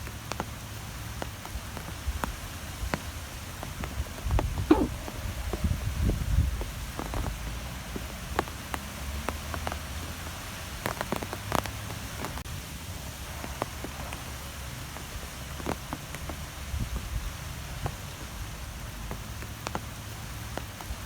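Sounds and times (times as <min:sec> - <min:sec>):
sharp ticks and patters: 0:00.0 - 0:21.0
wind rumble and hiss: 0:00.0 - 0:21.0.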